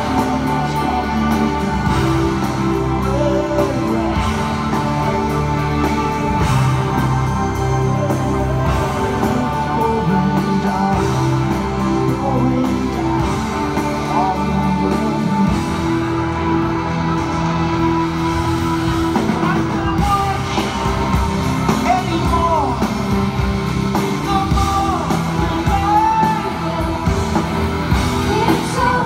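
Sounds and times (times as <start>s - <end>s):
drums: 0.0s - 29.0s
electric guitar: 0.0s - 29.0s
live rock band: 0.0s - 29.0s.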